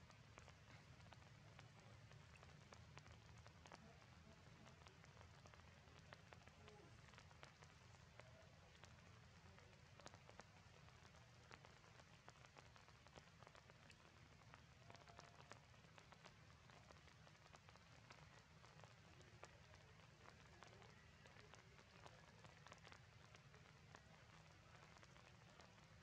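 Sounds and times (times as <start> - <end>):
faint low hum: 0.0 - 26.0
soft ticks and clicks: 0.0 - 26.0.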